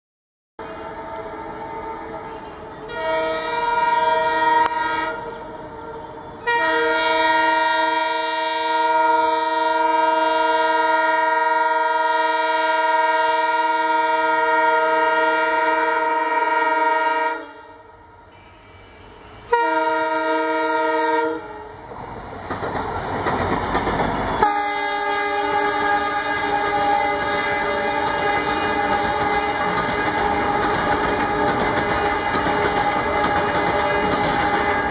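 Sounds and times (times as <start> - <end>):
locomotive horn blasts: 0.6 - 21.8, 24.4 - 34.9
locomotives passing on track: 0.6 - 34.9.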